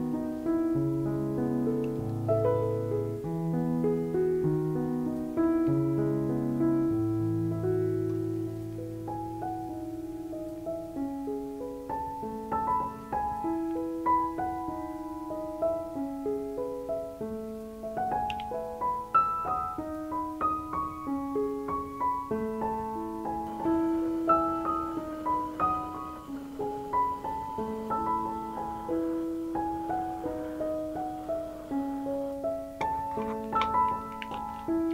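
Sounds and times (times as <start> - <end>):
piano music: 0.0 - 34.9.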